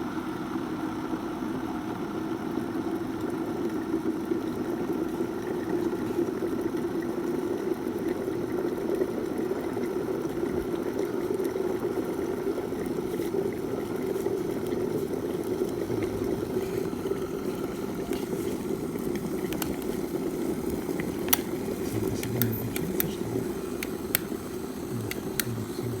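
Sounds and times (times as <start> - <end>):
electric kettle hissing: 0.0 - 26.0.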